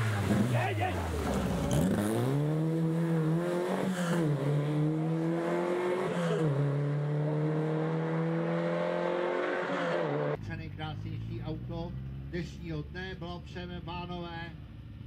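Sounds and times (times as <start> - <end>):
car engine accelerating: 0.0 - 13.1.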